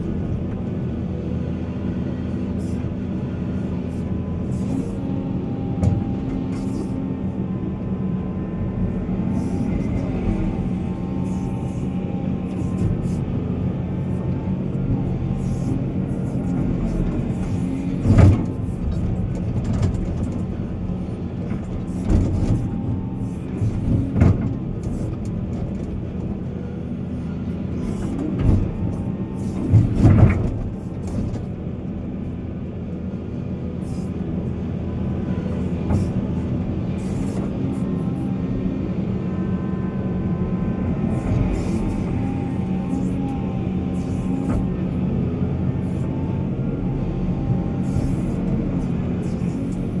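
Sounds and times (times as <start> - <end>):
heavy diesel machinery running: 0.0 - 50.0.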